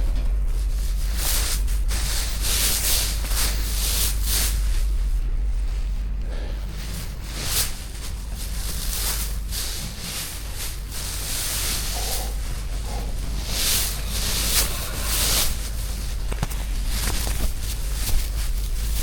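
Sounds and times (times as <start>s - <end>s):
straw rustling and swishing: 0.6s - 19.0s.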